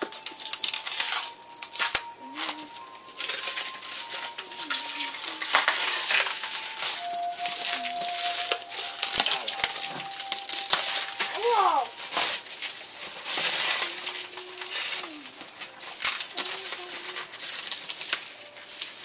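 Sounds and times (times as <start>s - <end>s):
plastic wrap crinkling and tearing: 0.0s - 19.0s.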